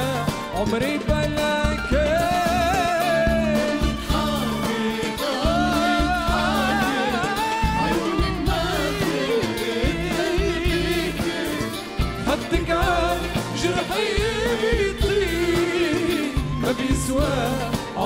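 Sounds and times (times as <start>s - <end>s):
live band playing: 0.0s - 18.0s
man singing with vibrato: 0.0s - 18.0s.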